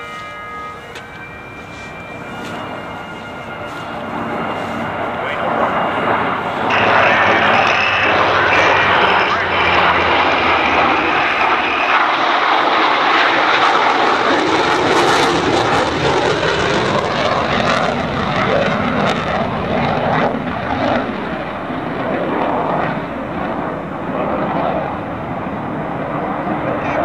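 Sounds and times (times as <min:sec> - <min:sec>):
jet formation flyby roar: 0:00.0 - 0:27.0.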